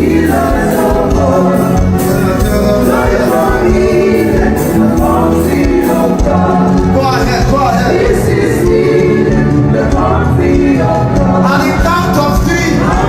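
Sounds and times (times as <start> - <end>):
choir singing gospel music: 0.0 - 13.0.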